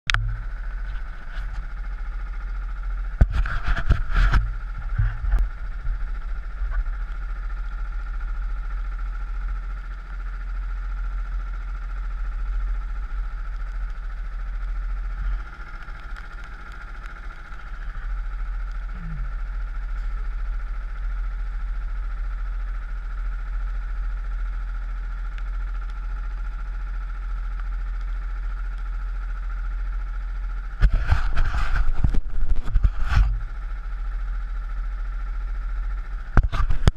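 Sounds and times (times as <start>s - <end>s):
kart engine running at low revs: 0.1s - 36.9s.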